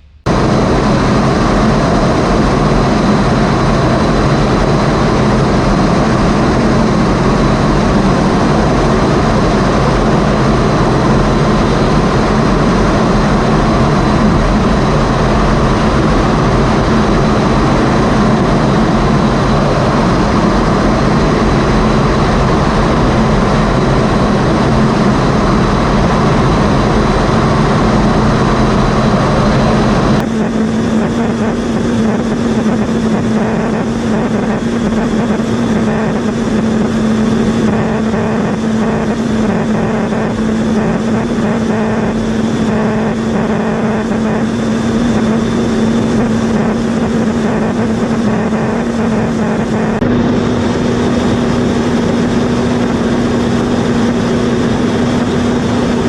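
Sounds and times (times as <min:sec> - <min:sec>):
high whine: 0:00.0 - 0:56.0
jet engines roaring: 0:00.0 - 0:56.0.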